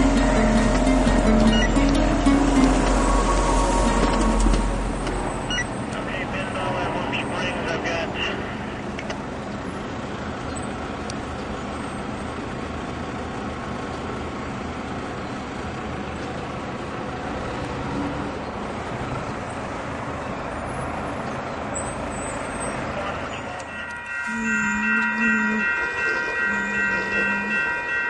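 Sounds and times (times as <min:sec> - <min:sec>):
train passing rumble: 0:00.0 - 0:28.0.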